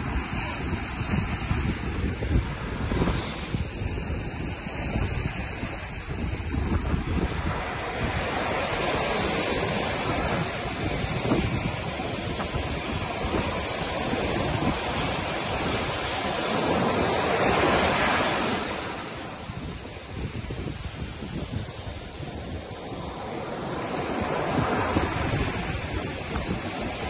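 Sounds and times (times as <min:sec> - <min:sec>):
surf washing onto sandy beach: 0:00.0 - 0:27.0.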